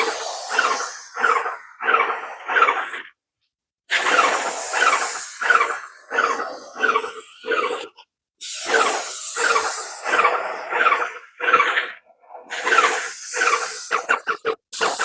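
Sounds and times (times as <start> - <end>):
paint sprayer pulsing: 0.0 - 3.1, 3.9 - 11.9, 12.5 - 15.0.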